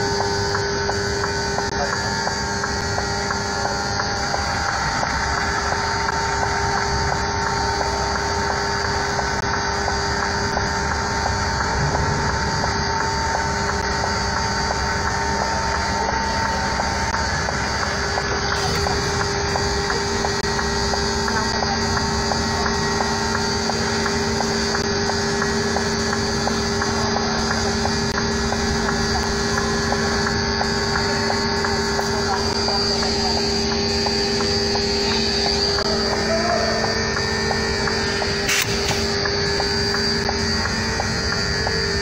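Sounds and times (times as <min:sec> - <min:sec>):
heavy engines idling: 0:00.0 - 0:42.0
low hum: 0:00.0 - 0:42.0.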